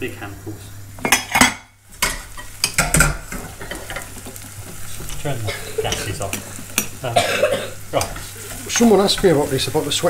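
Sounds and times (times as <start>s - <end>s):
vegetables sizzling in pans: 0.0s - 10.0s
stirring in pan: 0.9s - 10.0s.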